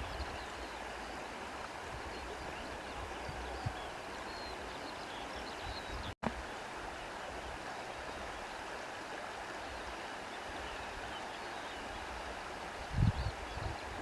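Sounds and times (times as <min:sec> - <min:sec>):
flowing stream: 0:00.0 - 0:14.0.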